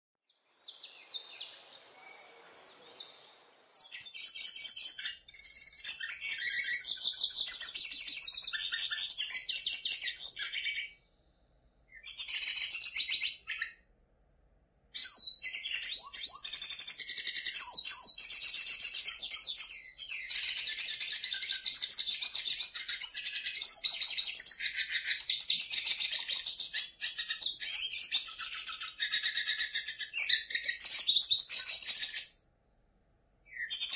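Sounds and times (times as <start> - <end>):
songbird singing: 0.3 - 11.2, 11.8 - 32.4, 33.2 - 33.9.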